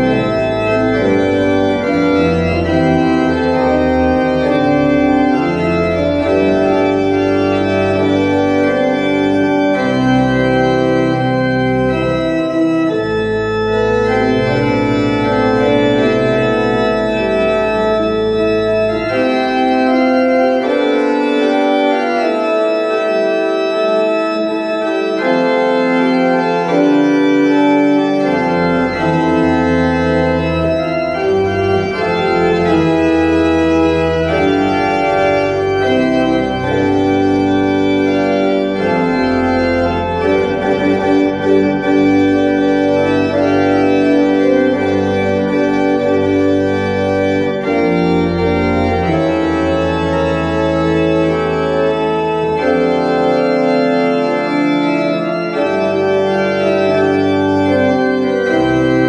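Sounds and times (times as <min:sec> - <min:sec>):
pipe organ playing a hymn: 0:00.0 - 0:59.0.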